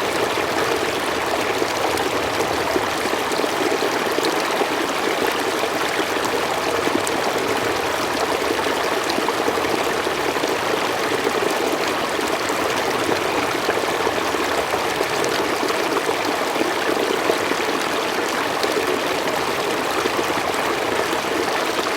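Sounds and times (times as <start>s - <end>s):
stream running over rocks: 0.0s - 21.9s.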